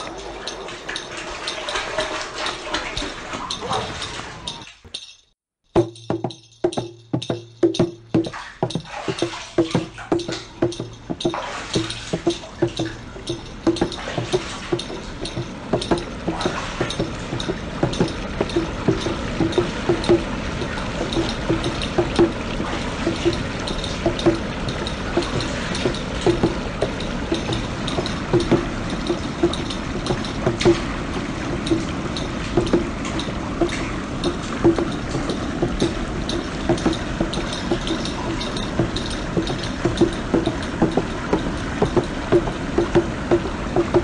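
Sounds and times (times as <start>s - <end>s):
water running and gurgling: 0.0s - 44.0s.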